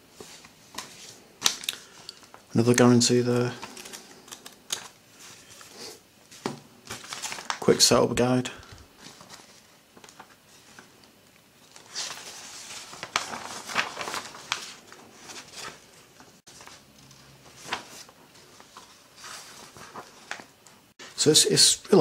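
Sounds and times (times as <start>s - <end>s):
paper pages rustling: 0.1s - 2.5s, 3.3s - 8.0s, 8.6s - 21.2s.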